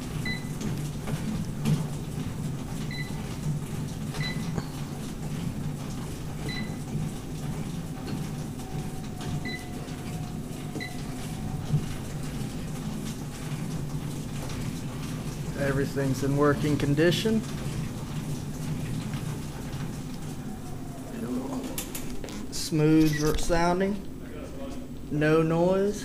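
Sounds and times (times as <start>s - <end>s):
exercise bike whir: 0.0s - 26.0s.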